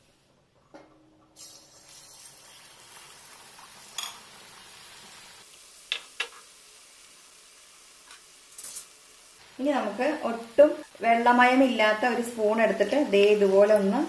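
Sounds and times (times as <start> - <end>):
batter frying in oil: 1.4 - 14.0.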